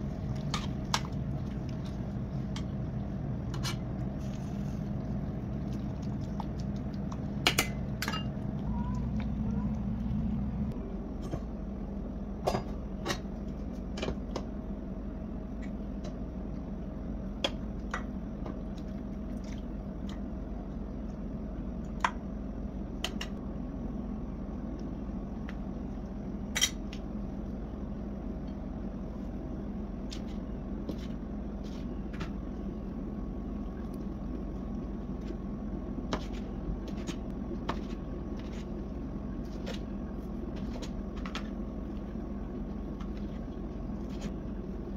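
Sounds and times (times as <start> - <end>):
low kitchen hum: 0.0 - 44.9.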